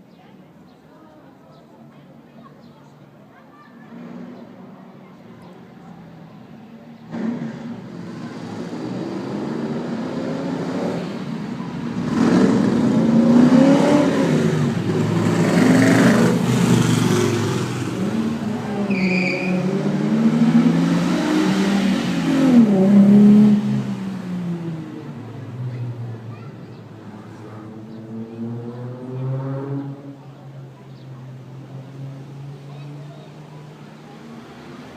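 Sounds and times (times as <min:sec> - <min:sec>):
racing car engines revving: 0:03.8 - 0:34.9.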